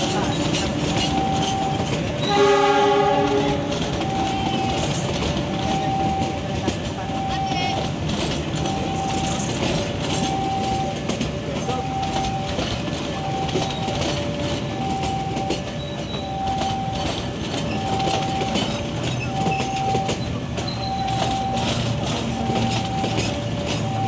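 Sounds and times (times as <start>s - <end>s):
train rumbling past: 0.0s - 24.0s
two-tone warning alarm: 0.0s - 24.0s
wheels clacking over rail joints: 0.0s - 24.0s.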